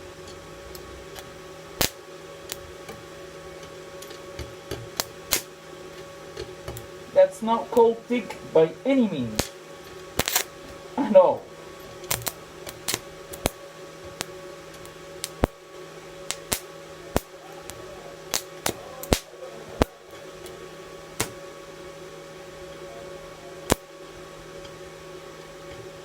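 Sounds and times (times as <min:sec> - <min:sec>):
welding machine humming: 0:00.0 - 0:26.0
welding arc cracking: 0:00.3 - 0:24.7.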